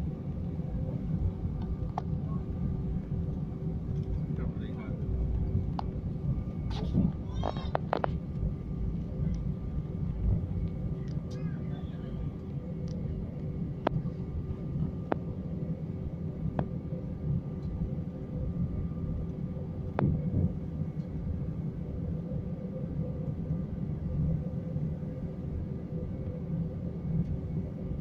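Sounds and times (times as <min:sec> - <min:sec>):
aircraft engines rumbling: 0:00.0 - 0:28.0.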